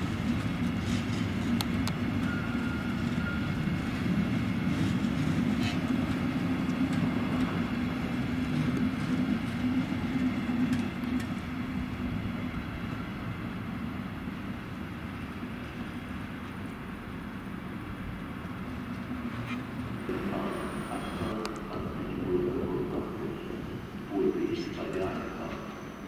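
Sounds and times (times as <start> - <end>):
train humming on tracks: 0.0 - 26.0.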